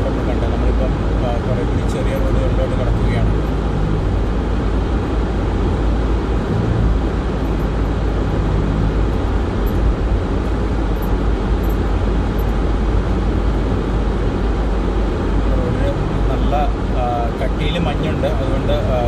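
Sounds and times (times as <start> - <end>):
car engine: 0.0 - 19.0
tyres on snowy road: 0.0 - 19.0.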